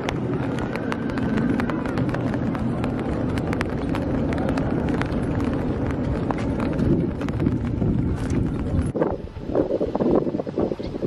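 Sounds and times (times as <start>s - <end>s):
raindrops hitting an umbrella: 0.0s - 9.0s
steady low rumble: 0.0s - 11.0s.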